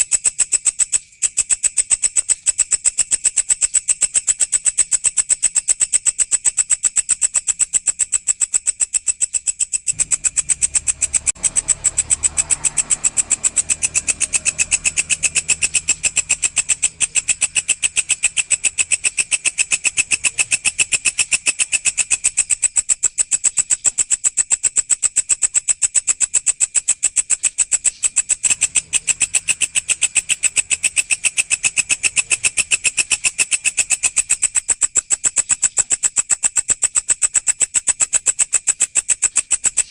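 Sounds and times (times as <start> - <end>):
grasshopper stridulating: 0.0 - 39.9.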